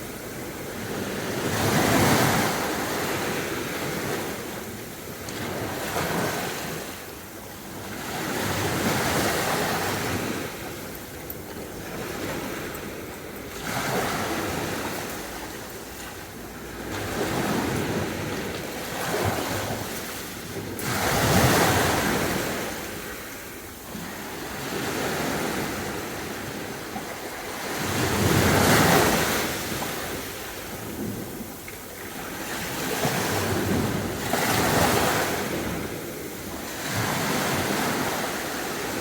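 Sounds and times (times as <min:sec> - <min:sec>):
sea waves breaking on shore: 0:00.0 - 0:39.0.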